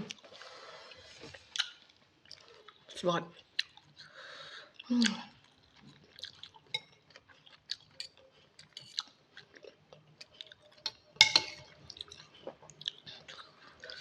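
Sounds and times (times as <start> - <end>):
chewing noodle soup: 0.0 - 14.0.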